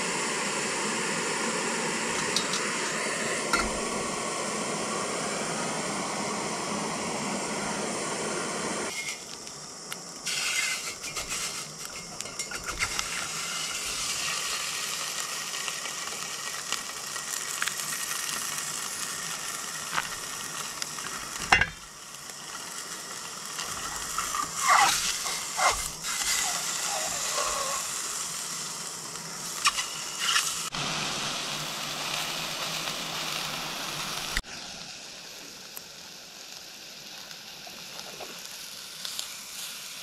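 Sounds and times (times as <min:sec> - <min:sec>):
sausage sizzling in pot: 0:00.0 - 0:40.0
stove burner hissing: 0:00.0 - 0:40.0.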